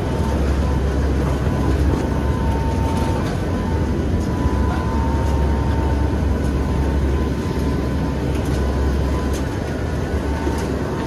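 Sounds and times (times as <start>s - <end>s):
thin steady whine: 0.0s - 11.0s
turboprop engine drone: 0.0s - 11.0s.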